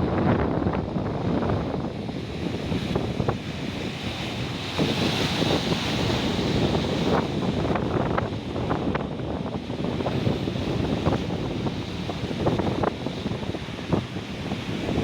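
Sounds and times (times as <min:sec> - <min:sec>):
ocean waves breaking: 0:00.0 - 0:15.0
wind buffeting microphone: 0:00.0 - 0:15.0.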